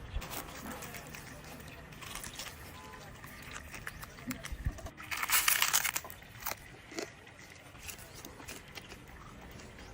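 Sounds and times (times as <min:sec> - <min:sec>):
fried fish crunching: 0:00.0 - 0:09.9.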